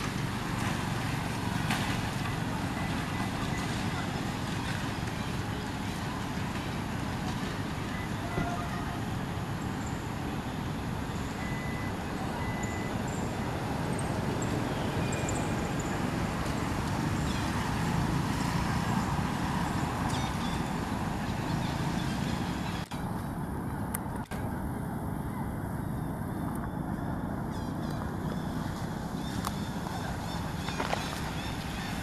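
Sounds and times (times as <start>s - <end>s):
road traffic noise: 0.0s - 32.0s
vehicle passing: 0.0s - 32.0s.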